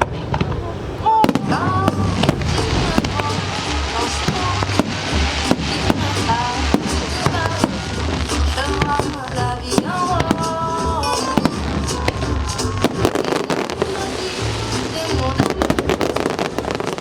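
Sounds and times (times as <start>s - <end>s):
fireworks booming and crackling: 0.0s - 17.0s
music over loudspeakers: 0.0s - 17.0s.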